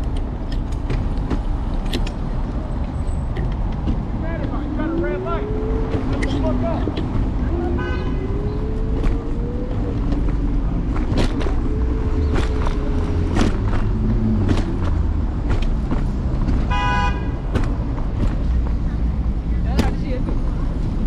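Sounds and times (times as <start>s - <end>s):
road and wind rumble: 0.0s - 21.0s.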